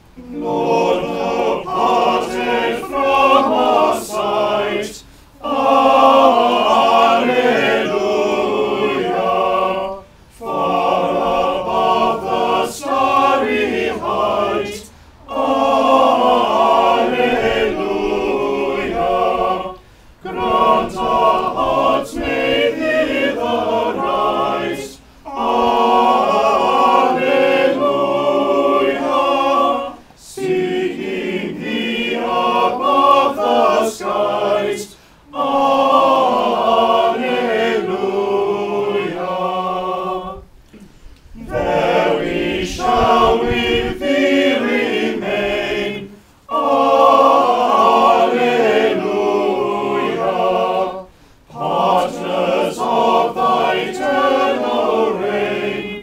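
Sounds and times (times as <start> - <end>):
small choir singing unaccompanied: 0.0 - 56.0.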